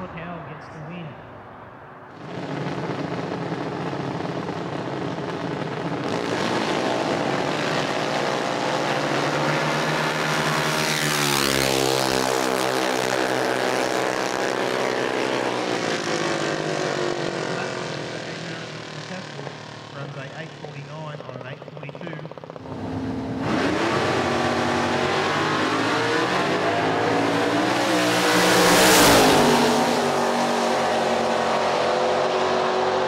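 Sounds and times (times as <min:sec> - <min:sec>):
dragster engines buzzing past: 0:02.1 - 0:33.0.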